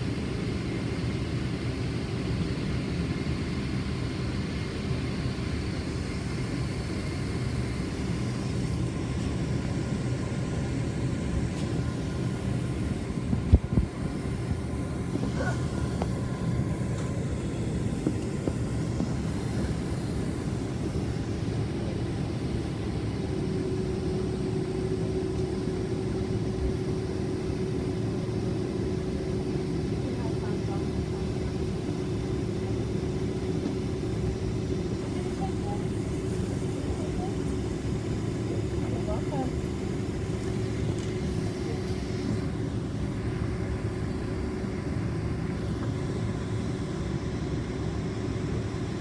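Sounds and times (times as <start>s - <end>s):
airplane cabin hum: 0.0s - 49.0s.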